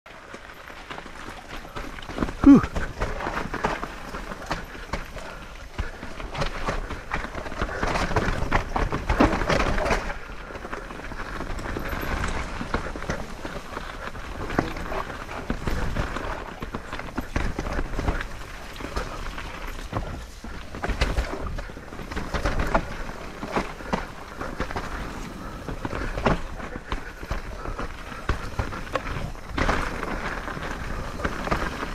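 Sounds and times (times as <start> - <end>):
bike knocks and rattles: 0.1 - 31.9
tyre and wind noise: 0.1 - 31.9.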